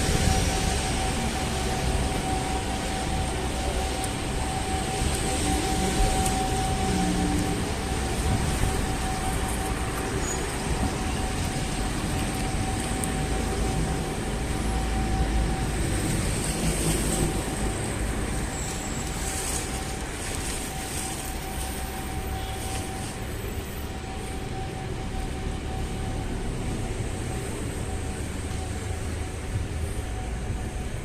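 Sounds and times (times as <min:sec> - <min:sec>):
traffic rumble: 0:00.0 - 0:31.0.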